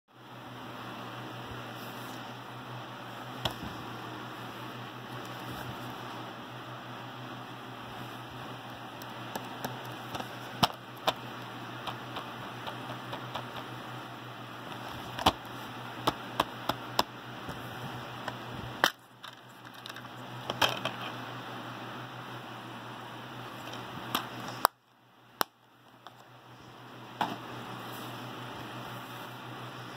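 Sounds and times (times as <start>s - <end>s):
low hum and hiss: 0.1s - 29.9s.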